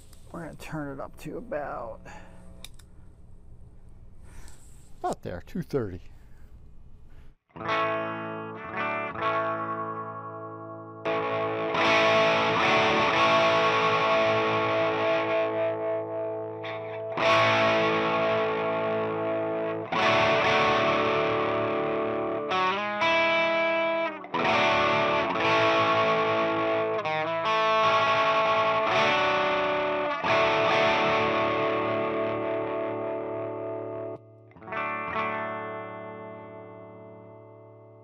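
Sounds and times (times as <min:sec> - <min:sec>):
distorted electric guitar chords: 0:07.5 - 0:38.0.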